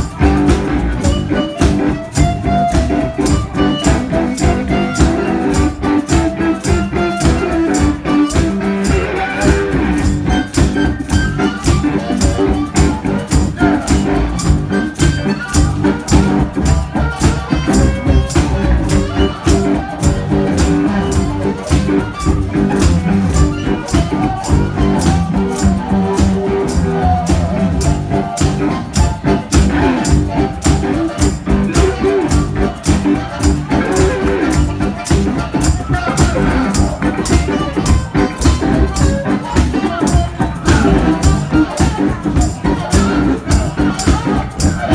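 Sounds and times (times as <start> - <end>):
fast percussive beat: 0.0 - 44.9
live blues-rock band playing: 0.0 - 44.9.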